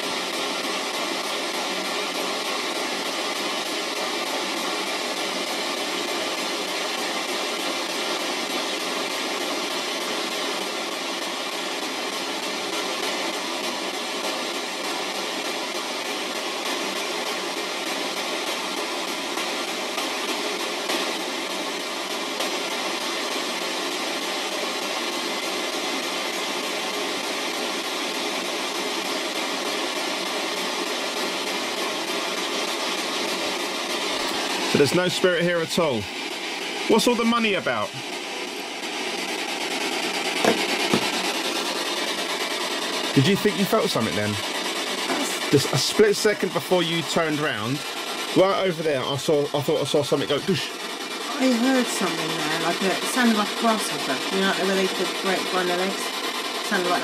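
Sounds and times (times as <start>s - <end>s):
radio static hissing: 0.0s - 57.0s.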